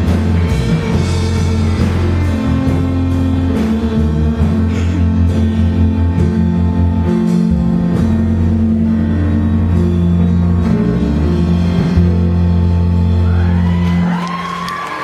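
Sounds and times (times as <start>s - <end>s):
live band playing country ballad: 0.0s - 14.9s
bass line: 0.0s - 15.0s
electric guitar: 0.0s - 15.0s.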